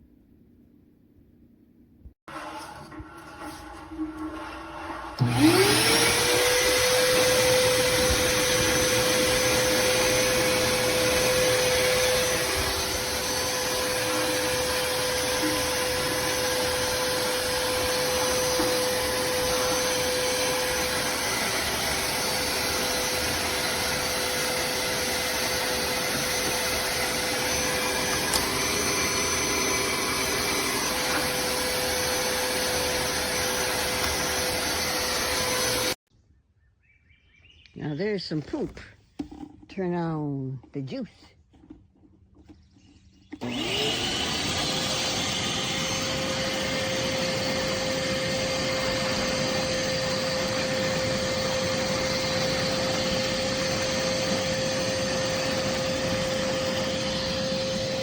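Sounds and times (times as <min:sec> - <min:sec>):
shop vacuum motor whine: 0:02.3 - 0:36.0, 0:43.3 - 0:58.0.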